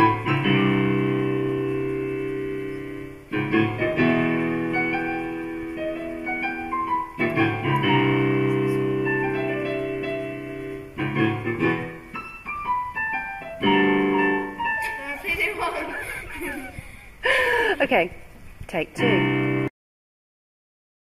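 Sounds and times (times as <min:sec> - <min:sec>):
piano chords and notes: 0:00.0 - 0:16.8, 0:18.9 - 0:19.7.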